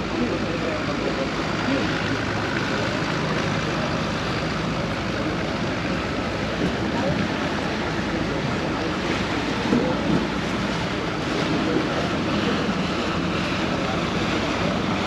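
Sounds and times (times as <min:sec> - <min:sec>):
boat engine running: 0:00.0 - 0:15.0
passenger chatter: 0:00.0 - 0:15.0
water wash: 0:00.0 - 0:15.0
wind: 0:00.0 - 0:15.0.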